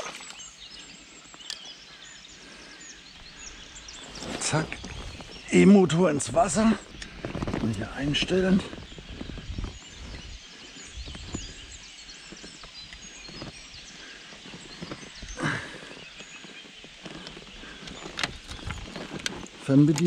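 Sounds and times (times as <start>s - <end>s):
low bumps: 3.2s - 19.5s.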